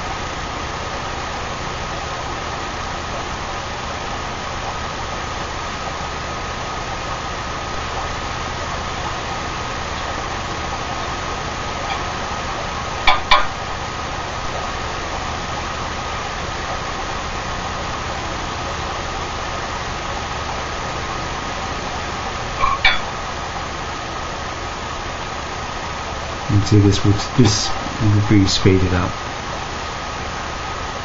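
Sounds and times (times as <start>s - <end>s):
torch flame hissing: 0.0s - 31.0s.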